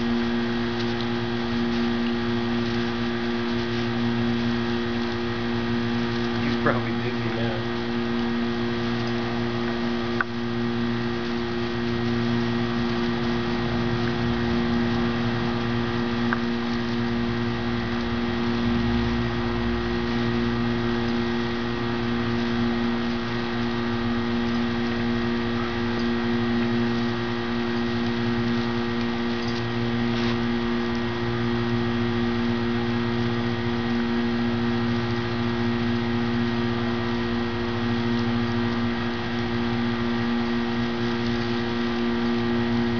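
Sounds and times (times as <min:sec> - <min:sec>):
steady machine hum: 0:00.0 - 0:42.9.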